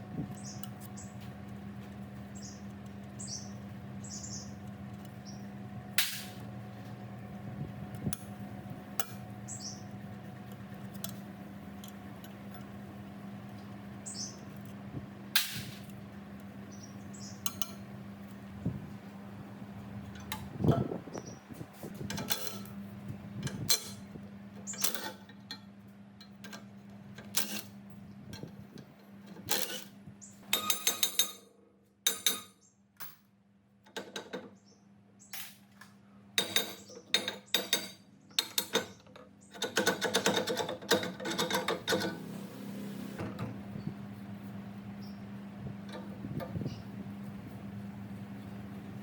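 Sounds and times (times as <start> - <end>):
steady low hum: 0.0 - 33.9, 34.6 - 49.0.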